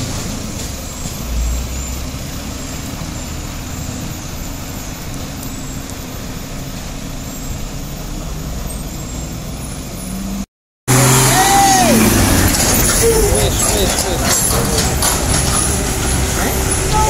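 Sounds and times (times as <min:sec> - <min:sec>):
heavy truck engines rumbling: 0:00.0 - 0:17.0
road noise: 0:00.0 - 0:17.0.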